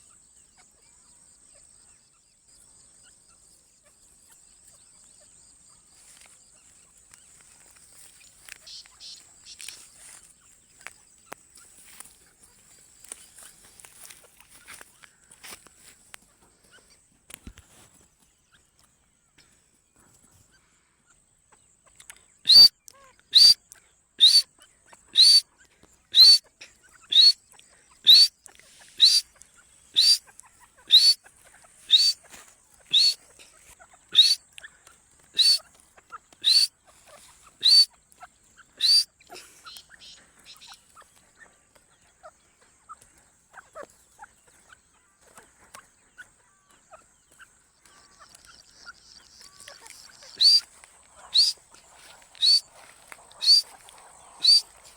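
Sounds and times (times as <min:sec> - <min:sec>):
francolin calling: 0:00.0 - 0:15.6, 0:21.8 - 0:54.9.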